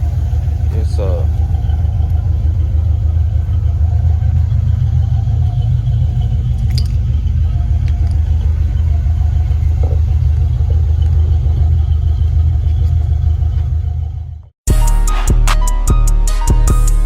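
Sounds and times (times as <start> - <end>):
car cruising interior rumble: 0.0 - 14.6.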